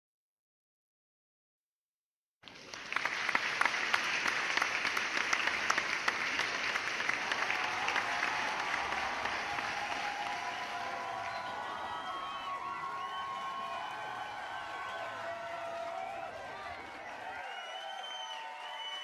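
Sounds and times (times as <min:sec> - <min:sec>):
crowd applauding: 0:02.4 - 0:19.0.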